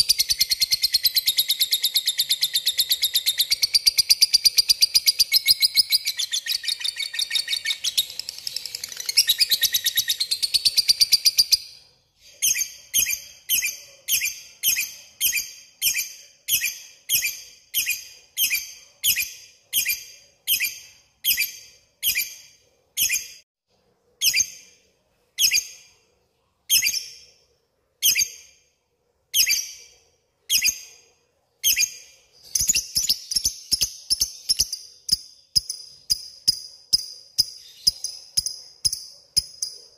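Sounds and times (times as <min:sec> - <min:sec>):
lovebird sharp chirps: 0:00.0 - 0:23.4, 0:24.2 - 0:24.8, 0:25.4 - 0:26.0, 0:26.7 - 0:27.4, 0:28.0 - 0:28.6, 0:29.3 - 0:39.9.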